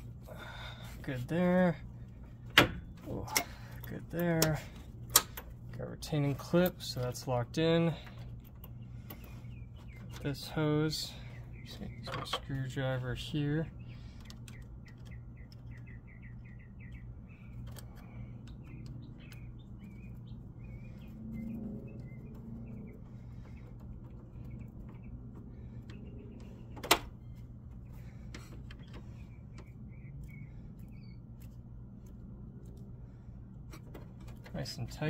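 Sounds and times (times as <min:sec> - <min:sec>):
small birds chirping: 0:00.0 - 0:35.0
steady low hum: 0:00.0 - 0:35.0.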